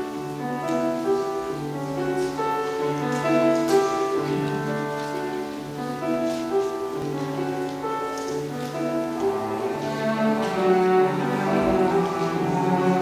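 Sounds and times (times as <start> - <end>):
slow grand piano: 0.0 - 13.0.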